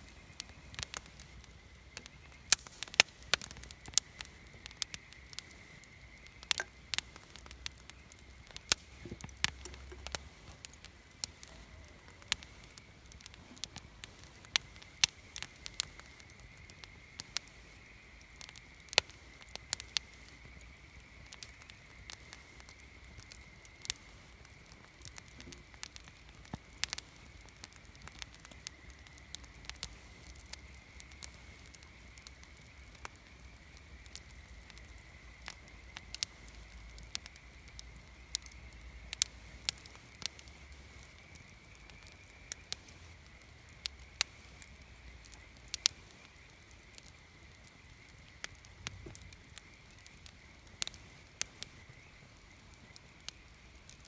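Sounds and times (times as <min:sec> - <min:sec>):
campfire crackling: 0:00.0 - 0:54.0
low steady background noise: 0:00.0 - 0:54.0.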